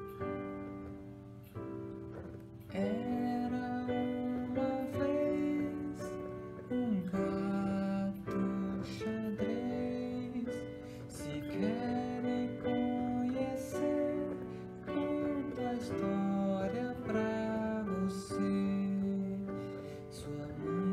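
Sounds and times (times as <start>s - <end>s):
man singing: 2.7s - 20.9s.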